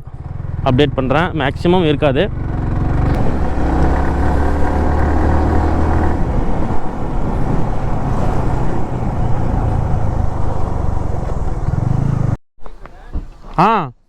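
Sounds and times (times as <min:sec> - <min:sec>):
low engine drone: 0:00.0 - 0:12.4
road and wind noise: 0:00.0 - 0:13.6.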